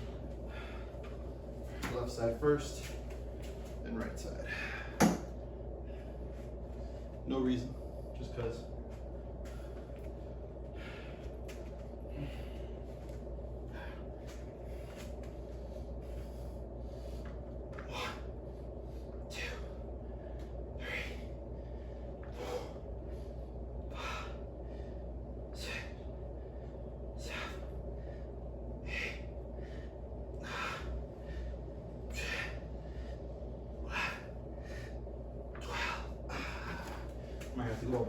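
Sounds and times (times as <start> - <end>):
man breathing hard: 0.0 - 2.0, 4.3 - 8.2, 8.9 - 38.0
steady low hum: 0.0 - 38.0.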